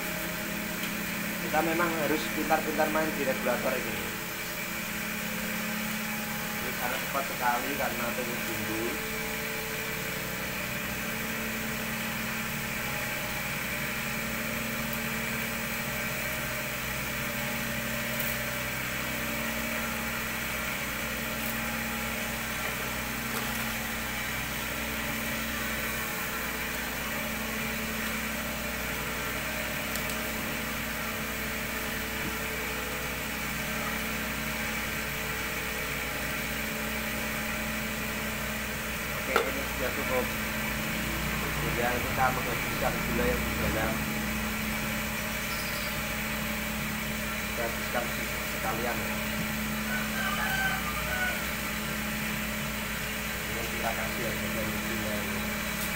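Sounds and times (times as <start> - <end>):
gas burner running: 0.0 - 55.9
spinning head humming: 0.0 - 55.9.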